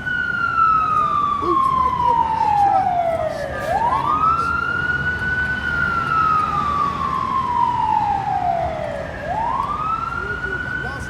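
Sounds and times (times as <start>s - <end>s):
engine and road rumble: 0.0s - 11.0s
fire engine siren wailing: 0.0s - 11.0s.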